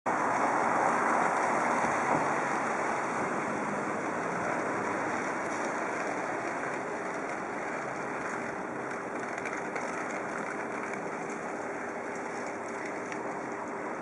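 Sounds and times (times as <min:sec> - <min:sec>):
street traffic hiss: 0:00.1 - 0:14.0.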